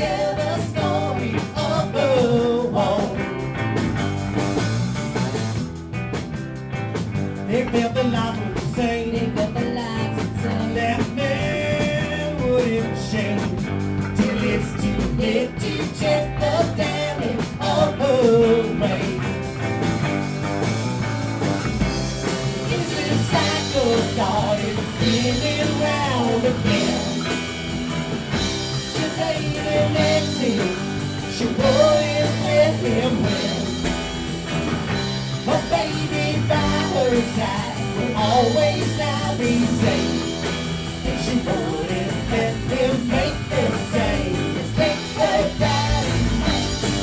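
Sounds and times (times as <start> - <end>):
rock song with singing: 0.0 - 47.0.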